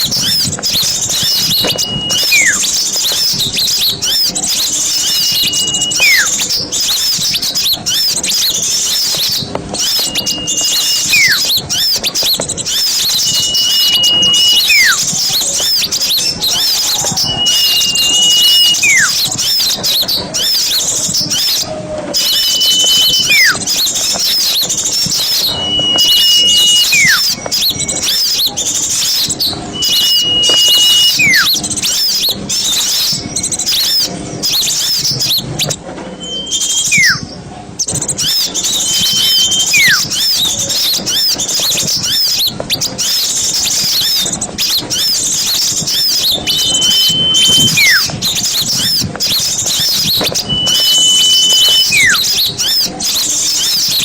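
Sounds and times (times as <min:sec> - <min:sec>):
bird whistle with falling slide: 0:00.0 - 0:54.0
songbirds chirping: 0:00.0 - 0:54.0.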